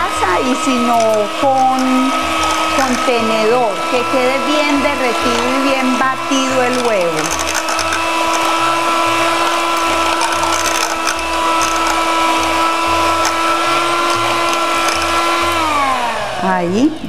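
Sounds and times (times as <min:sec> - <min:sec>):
electric mixer beating eggs: 0:00.0 - 0:17.0.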